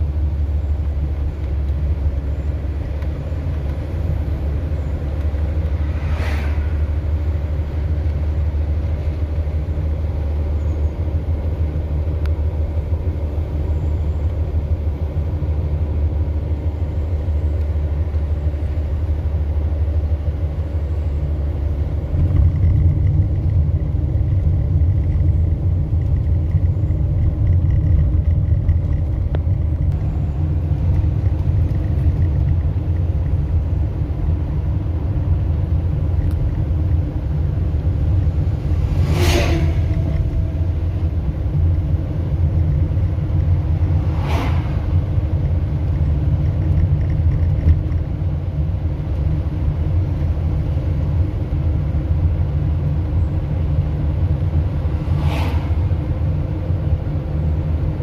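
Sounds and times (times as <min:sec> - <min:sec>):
low vehicle rumble: 0:00.0 - 0:58.0.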